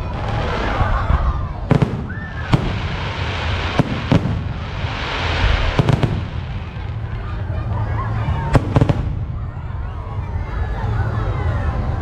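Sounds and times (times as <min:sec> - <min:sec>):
fireworks bangs: 0:00.0 - 0:09.9
fireworks rumble and hiss: 0:00.0 - 0:12.0.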